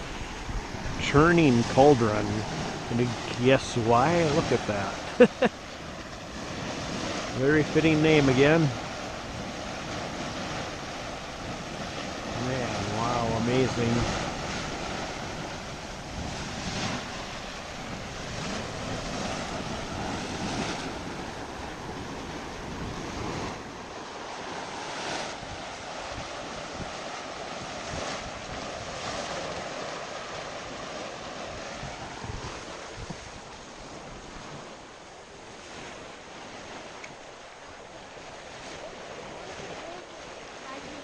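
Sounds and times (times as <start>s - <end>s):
hot spring churning and bubbling: 0.0s - 41.0s.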